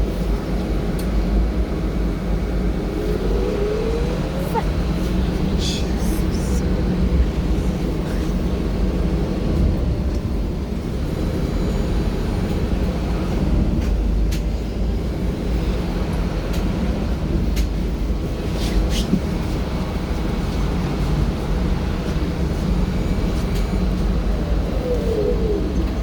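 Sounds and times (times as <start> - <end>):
rumble of tyres on road: 0.0 - 26.0.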